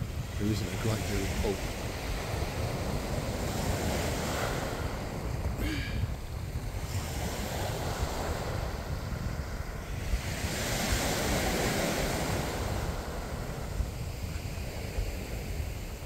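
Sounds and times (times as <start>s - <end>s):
sea waves breaking on beach: 0.0s - 16.0s
wind rumbling on microphone: 0.0s - 16.0s.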